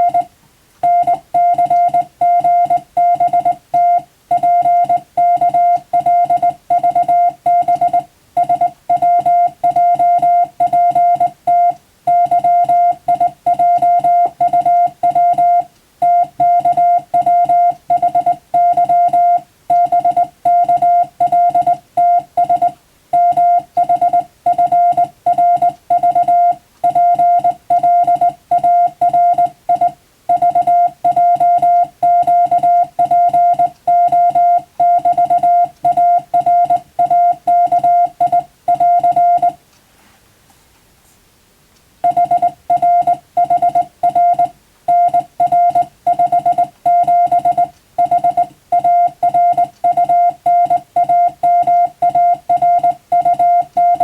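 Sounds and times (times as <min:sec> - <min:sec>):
morse code beeps: 0:00.0 - 0:39.6, 0:42.0 - 0:54.0.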